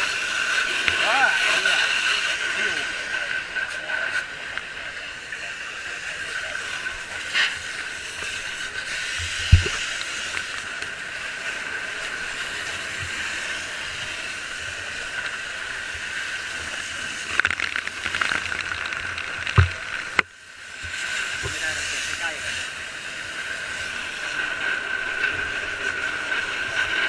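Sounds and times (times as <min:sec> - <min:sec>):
crackles: 0:00.0 - 0:27.0
steady hiss: 0:00.0 - 0:27.0.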